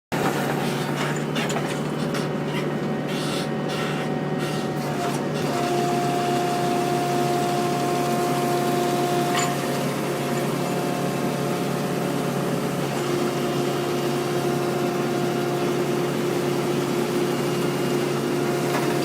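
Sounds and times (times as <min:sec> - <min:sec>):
excavator engine hum: 0:00.1 - 0:19.0.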